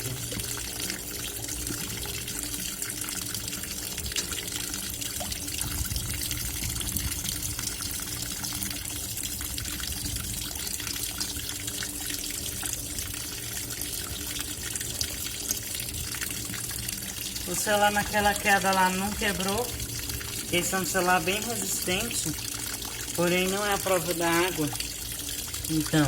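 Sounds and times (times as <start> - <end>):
washing machine low hum: 0.0 - 26.0
water splashing in washing machine: 0.0 - 26.0.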